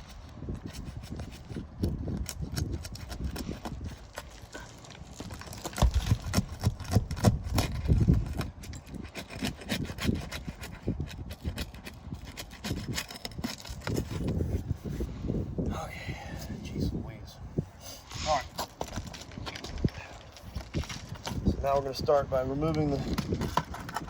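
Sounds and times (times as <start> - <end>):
tool scraping roof shingles: 0.0 - 15.2, 18.5 - 22.0, 22.6 - 24.0.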